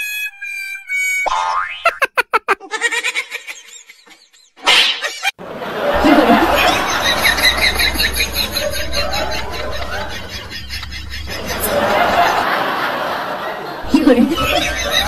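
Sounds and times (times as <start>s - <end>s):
people laughing: 2.0s - 15.0s.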